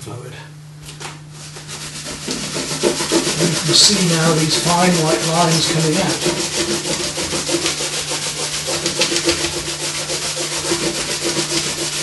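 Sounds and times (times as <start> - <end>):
steady low hum: 0.0 - 12.0
dry rubbing on paper: 1.3 - 12.0.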